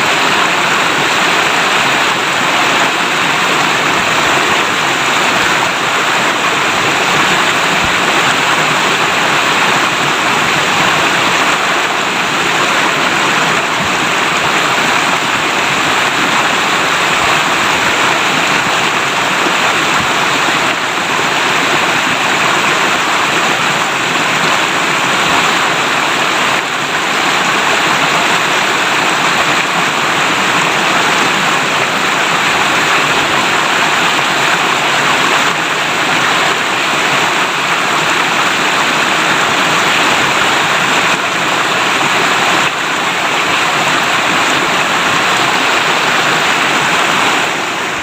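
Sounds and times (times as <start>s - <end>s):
water rushing over stones: 0.0s - 48.0s.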